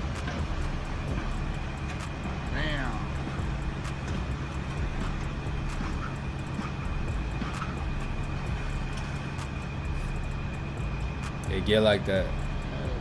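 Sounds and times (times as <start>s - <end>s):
truck engine drone: 0.0s - 13.0s.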